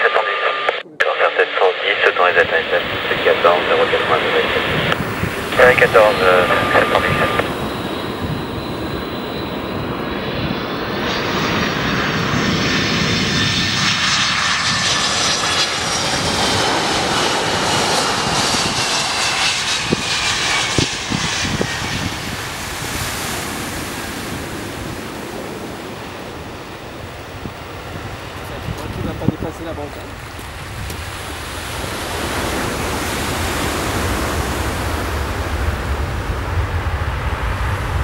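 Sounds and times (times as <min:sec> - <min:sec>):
jet airliner engines flying past: 0:00.0 - 0:38.0.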